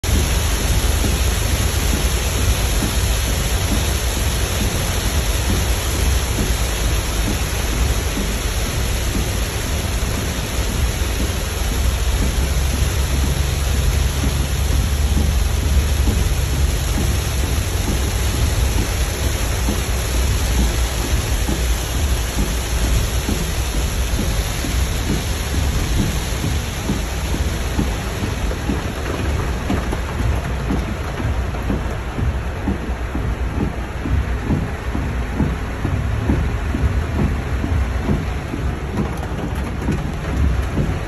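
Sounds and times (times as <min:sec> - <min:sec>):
heavy rain drumming on car roof: 0:00.0 - 0:41.0.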